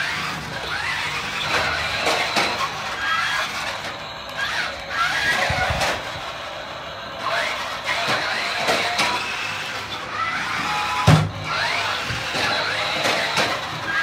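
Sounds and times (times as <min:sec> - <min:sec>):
toy truck motors whirring: 0:00.0 - 0:14.0.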